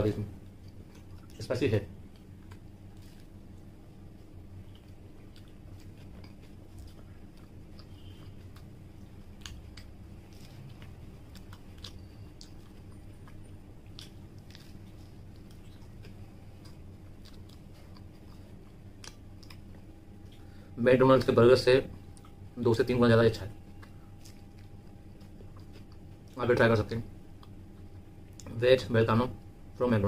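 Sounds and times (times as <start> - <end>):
chewing with soft crunches: 0.0 - 29.9
steady low hum: 0.0 - 30.0.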